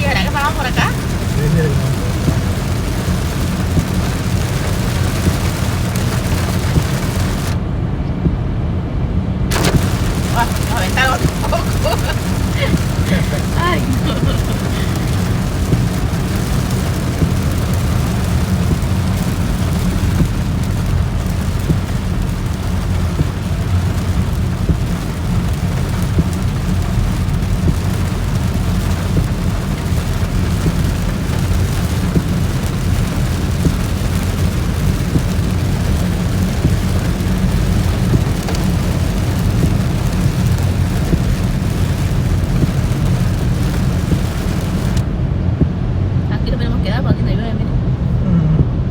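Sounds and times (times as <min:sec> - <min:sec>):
heavy rain on car roof: 0:00.0 - 0:08.4, 0:09.4 - 0:48.9
low road rumble: 0:00.0 - 0:48.9.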